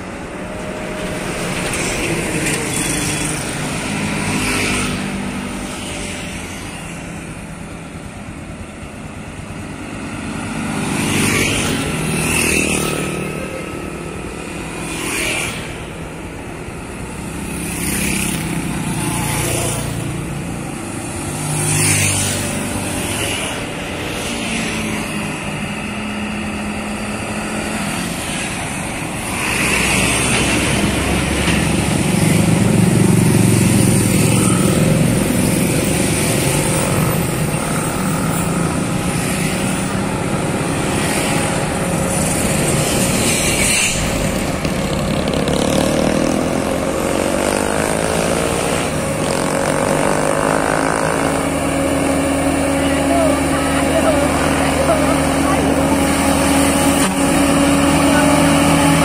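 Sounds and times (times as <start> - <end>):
cars passing: 0.0 - 59.0
motorcycles passing: 0.0 - 59.0
truck diesel engine drone: 0.0 - 59.0.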